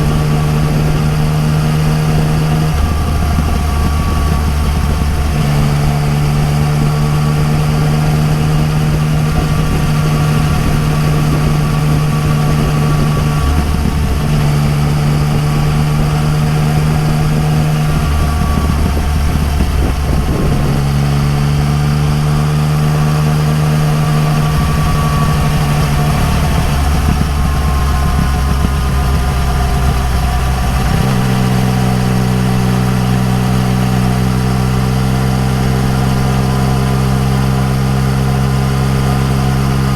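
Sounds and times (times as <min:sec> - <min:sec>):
motorcycle engine at riding speed: 0:00.0 - 0:39.9.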